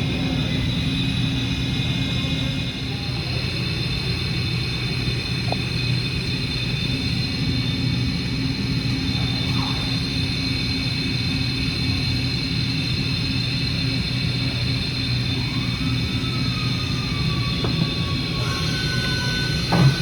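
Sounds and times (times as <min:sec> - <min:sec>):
high machine whine: 0:00.0 - 0:20.0
milling machine hum: 0:00.0 - 0:20.0.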